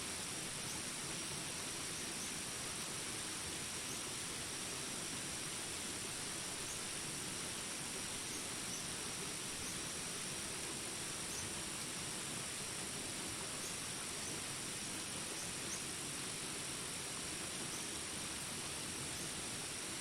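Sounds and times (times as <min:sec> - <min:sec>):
rain hiss: 0:00.0 - 0:20.0
high insect drone: 0:00.2 - 0:20.0.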